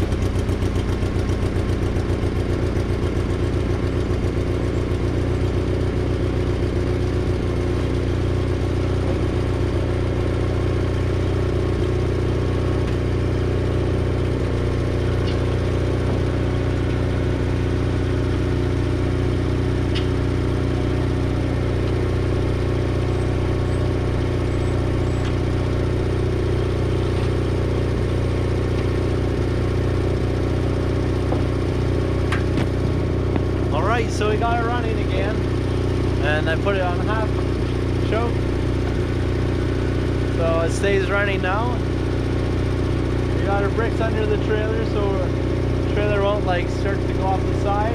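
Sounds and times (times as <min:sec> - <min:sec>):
gasoline engine running: 0:00.0 - 0:47.9.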